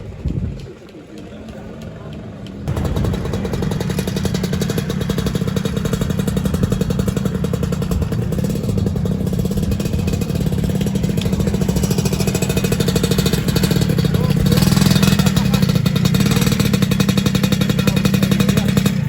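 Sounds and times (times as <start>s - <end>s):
two-stroke scooter engine running: 1.5s - 19.0s.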